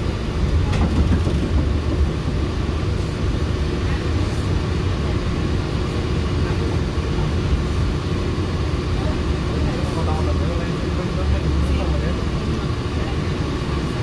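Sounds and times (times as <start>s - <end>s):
monorail train rumbling: 0.0s - 14.0s.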